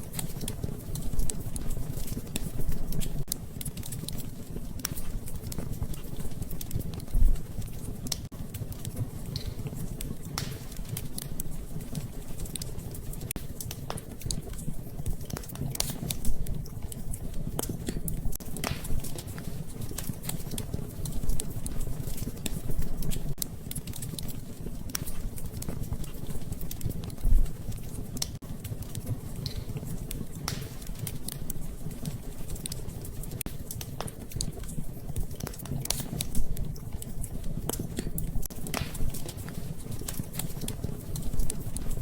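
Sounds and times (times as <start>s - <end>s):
low rumble of flames: 0.0s - 42.0s
wood fire crackling and popping: 0.0s - 42.0s.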